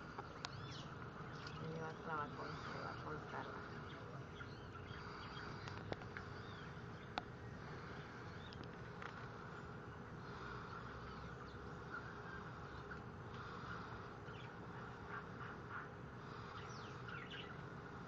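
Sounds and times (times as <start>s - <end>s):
faint steady buzzing: 0.0s - 18.0s.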